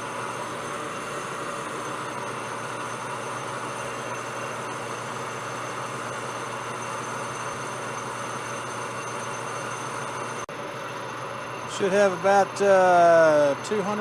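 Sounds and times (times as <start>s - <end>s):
metal lathe cutting: 0.0s - 14.0s
motor hum: 0.0s - 14.0s.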